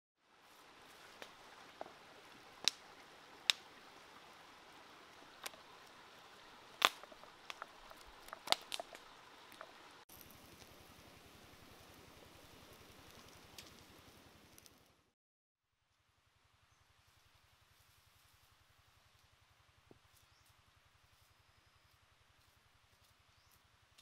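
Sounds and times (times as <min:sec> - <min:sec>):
faint steady hiss: 0:00.2 - 0:24.0.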